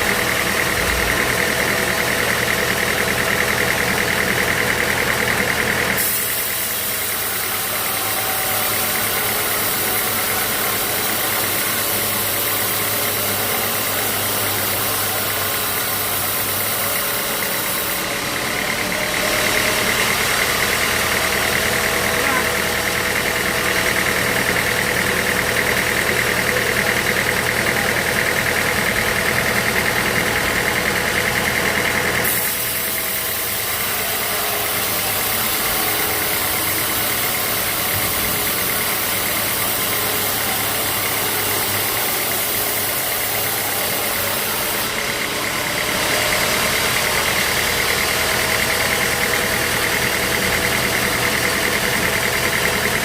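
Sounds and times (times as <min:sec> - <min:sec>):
sawmill machinery drone: 0:00.0 - 0:53.0
hissing machinery: 0:04.1 - 0:53.0.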